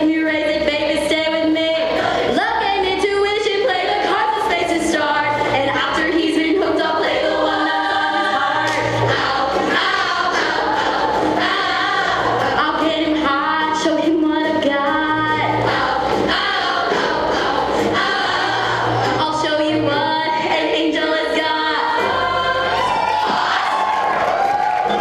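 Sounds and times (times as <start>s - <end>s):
choir singing in harmony: 1.4s - 2.4s, 3.5s - 25.0s.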